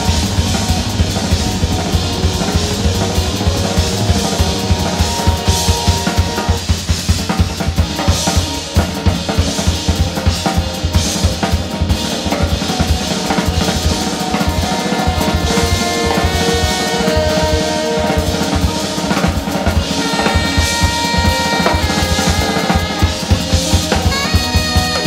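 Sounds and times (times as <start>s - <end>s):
drum kit playing busily: 0.0s - 25.0s
live band music: 0.0s - 25.0s.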